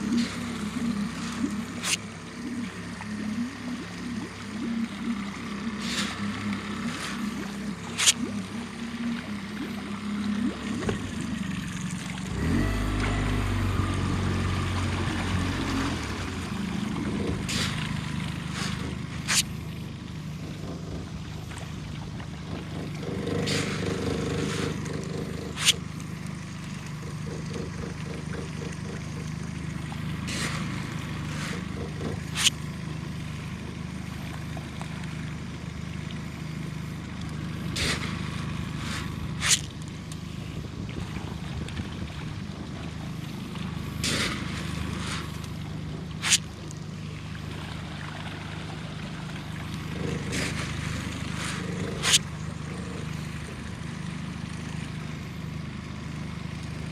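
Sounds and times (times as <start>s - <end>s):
small boat motor running: 0.0s - 56.9s.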